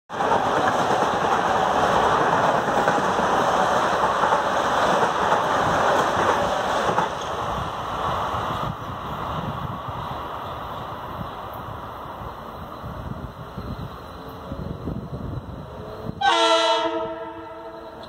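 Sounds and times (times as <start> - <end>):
train wheels rumbling on rail: 0.1 - 18.0.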